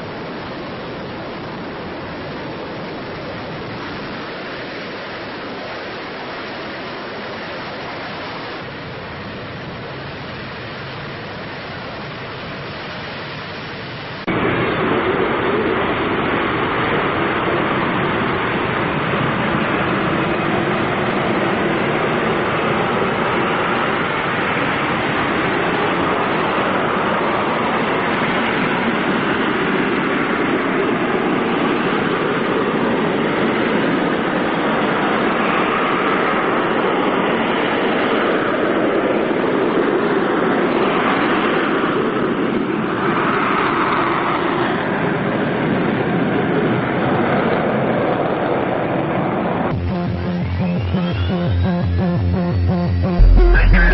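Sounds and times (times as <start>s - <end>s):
fighter jet engine roar: 0.0s - 52.0s.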